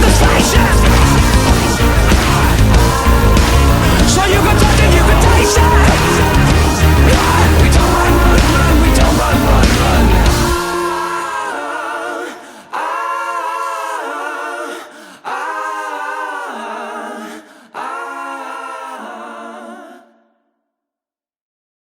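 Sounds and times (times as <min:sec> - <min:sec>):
voices singing sustained chords: 0:00.0 - 0:20.2.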